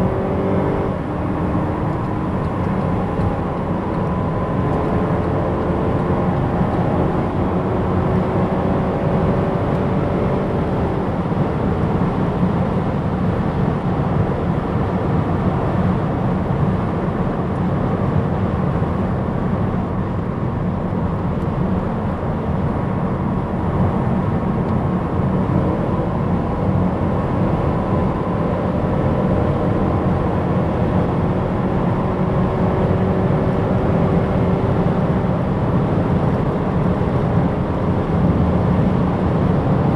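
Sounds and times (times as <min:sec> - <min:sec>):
car engine accelerating: 0:00.0 - 0:39.9
road tyre and wind noise: 0:00.0 - 0:39.9.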